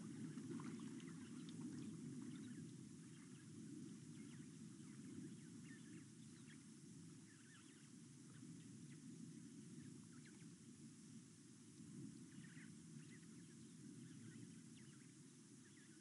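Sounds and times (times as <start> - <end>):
small birds chirping: 0.0 - 10.6, 12.0 - 16.0
low background hum: 0.0 - 16.0.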